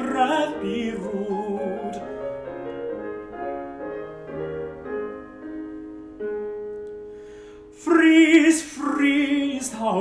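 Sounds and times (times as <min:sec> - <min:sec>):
solo piano: 0:00.0 - 0:10.0.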